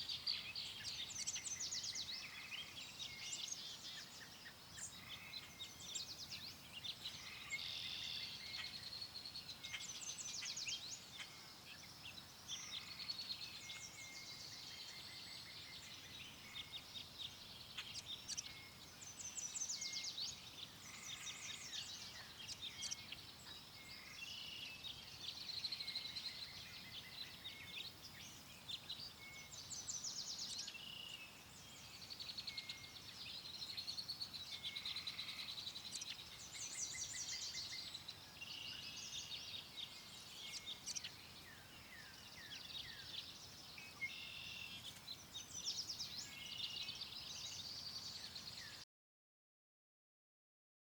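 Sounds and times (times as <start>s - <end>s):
faint low hiss: 0.0s - 48.8s
songbirds chirping and trilling: 0.0s - 48.8s.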